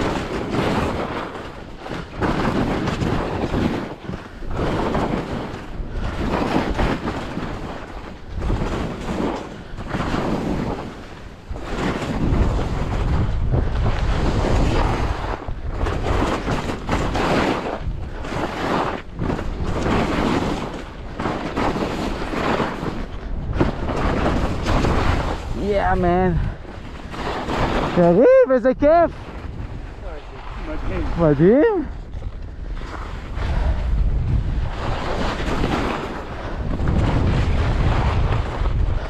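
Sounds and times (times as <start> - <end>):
skis scraping on hard snow: 0.0 - 28.2, 28.8 - 39.0
wind rushing over microphone: 0.0 - 39.0.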